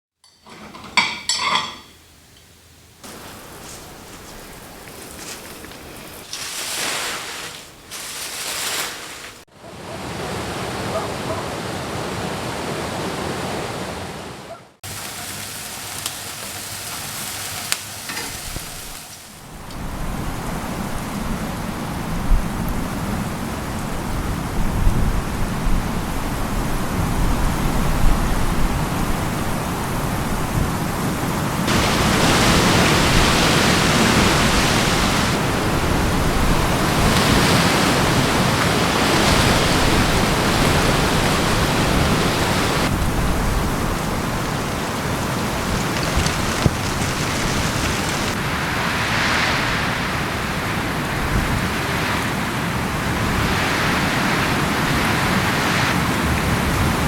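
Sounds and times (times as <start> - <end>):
steady rain falling: 2.0 - 10.7, 14.8 - 57.0.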